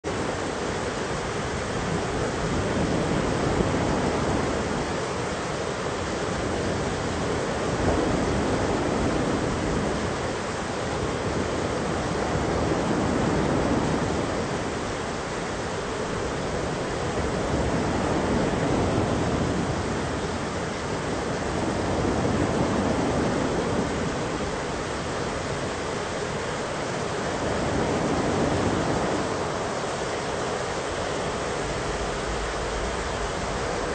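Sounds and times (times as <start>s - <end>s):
thunderstorm rushing noise: 0.0s - 33.9s.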